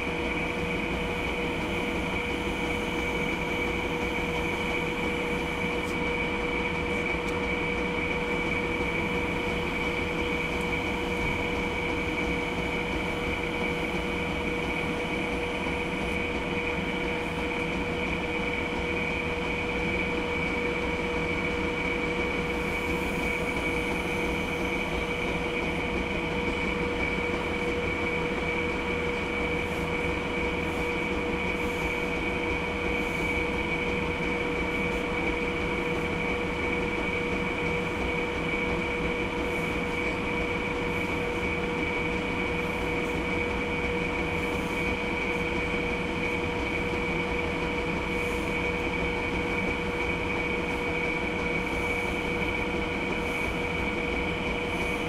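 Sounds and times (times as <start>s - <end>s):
mechanical hum with whining tones: 0.0s - 55.0s.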